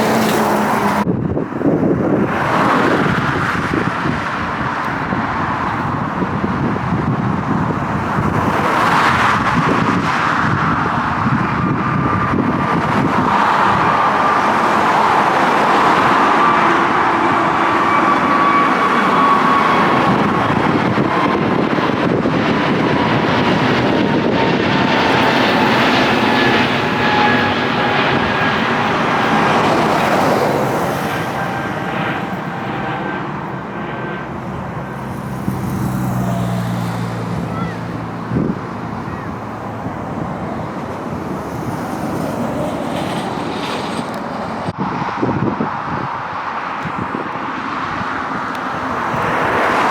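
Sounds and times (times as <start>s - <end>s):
jet airliner engine whine: 0.0s - 49.9s.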